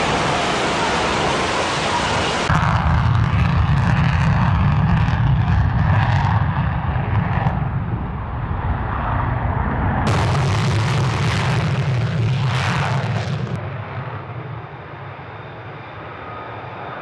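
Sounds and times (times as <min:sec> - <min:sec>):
jet engine rumble and hiss: 0:00.0 - 0:17.0.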